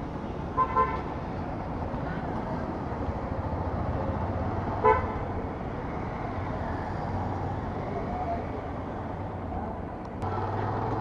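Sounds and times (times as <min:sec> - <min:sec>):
road traffic engine hum: 0:00.0 - 0:11.0.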